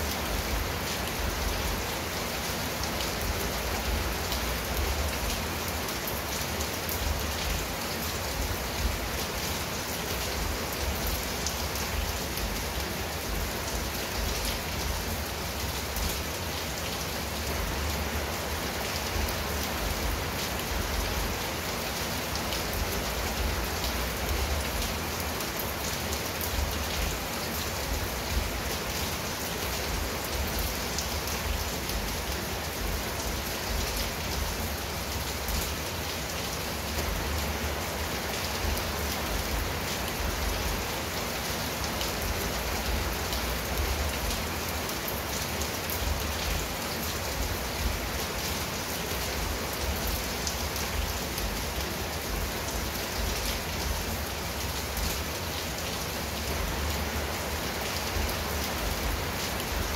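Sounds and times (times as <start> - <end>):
rain on a tiled roof: 0.0 - 59.9
raindrops pattering on foliage: 0.0 - 59.9.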